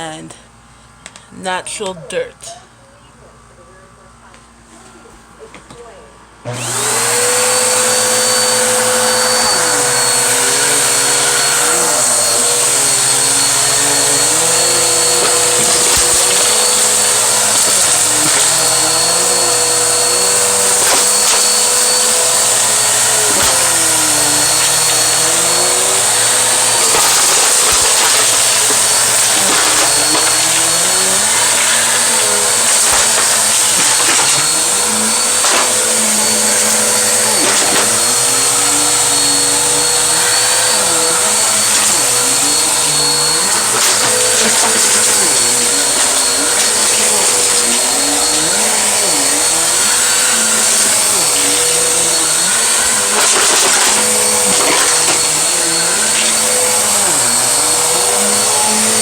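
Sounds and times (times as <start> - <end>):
vacuum cleaner motor whine: 1.8 - 59.0
vacuum sucking up debris: 6.5 - 59.0.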